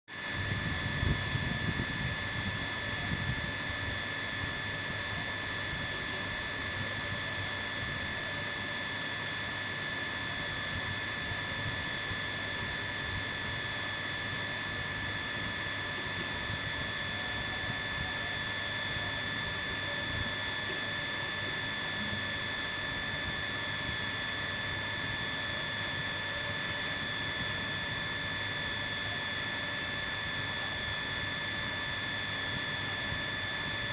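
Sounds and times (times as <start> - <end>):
machine hiss with high whine: 0.1 - 33.9.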